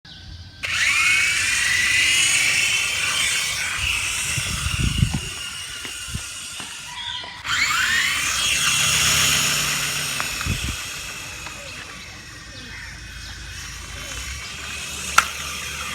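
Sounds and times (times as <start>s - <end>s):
rc helicopter rotor whining: 0.4s - 15.9s.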